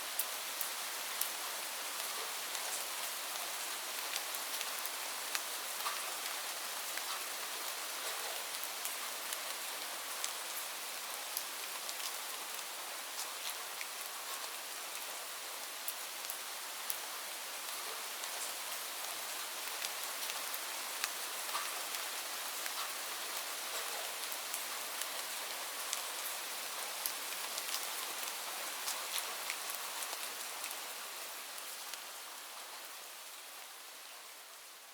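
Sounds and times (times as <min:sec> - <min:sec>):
raindrops ticking on a surface: 0:00.1 - 0:33.6.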